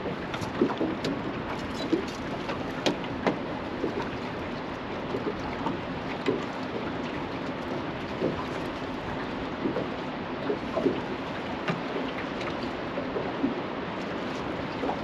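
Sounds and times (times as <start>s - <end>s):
water slapping against boat hull: 0.0s - 15.0s.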